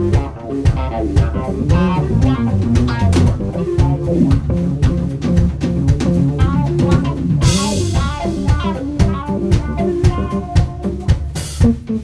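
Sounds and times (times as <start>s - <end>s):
drum kit: 0.0s - 12.0s
electric bass: 0.0s - 12.0s
electric guitar with bends: 0.0s - 12.0s.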